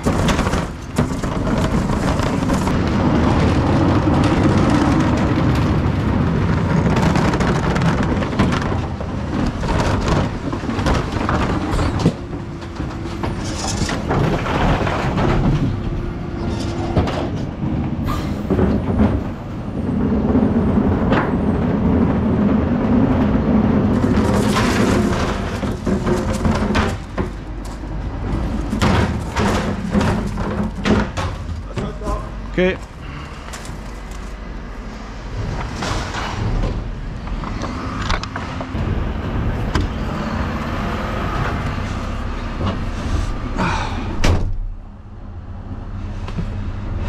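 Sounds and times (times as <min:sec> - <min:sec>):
bins rumbling over paving: 0:00.0 - 0:47.0
truck engine and hydraulics: 0:00.0 - 0:47.0.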